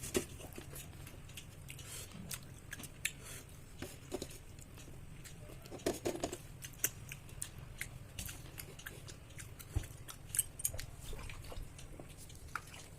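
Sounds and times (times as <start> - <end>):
person chewing food: 0.0 - 12.9.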